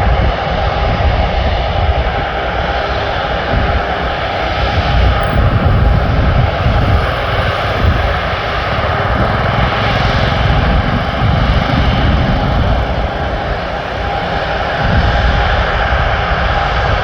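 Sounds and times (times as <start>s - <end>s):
jet engines rumbling and hissing: 0.1s - 17.0s.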